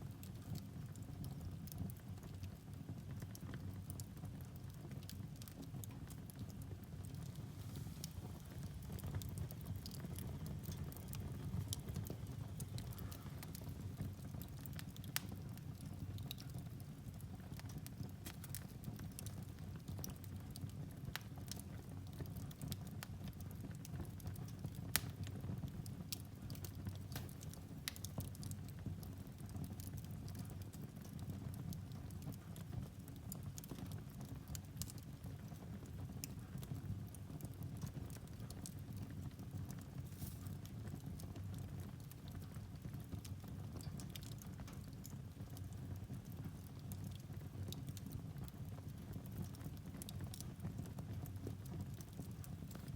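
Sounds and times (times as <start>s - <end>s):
fire flames rumbling: 0.0s - 52.9s
firewood crackling and popping: 0.0s - 52.9s.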